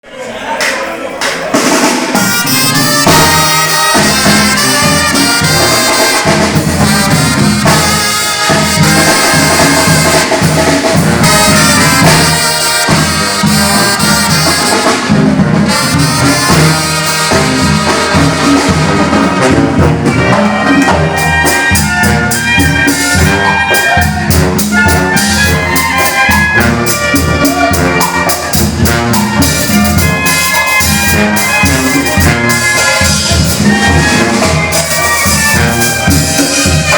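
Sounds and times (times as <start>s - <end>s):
brass band playing: 0.2s - 36.9s
drum beat: 1.2s - 36.9s.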